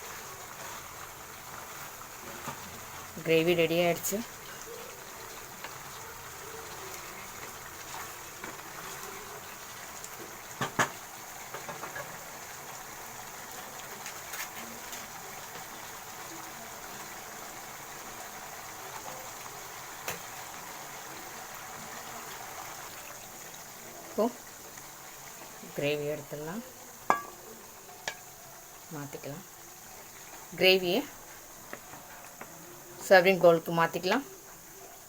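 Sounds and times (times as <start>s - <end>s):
gravy bubbling in a pan: 0.0s - 35.0s.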